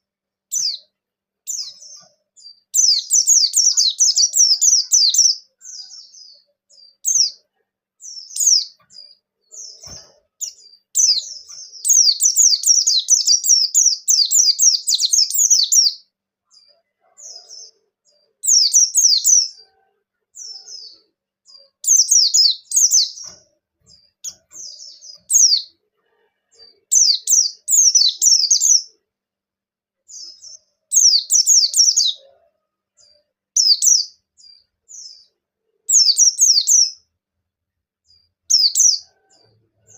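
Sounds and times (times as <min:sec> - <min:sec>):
bird singing high chirps: 0:00.0 - 0:25.8, 0:26.5 - 0:29.0, 0:30.1 - 0:32.3, 0:33.5 - 0:37.1, 0:38.1 - 0:39.9.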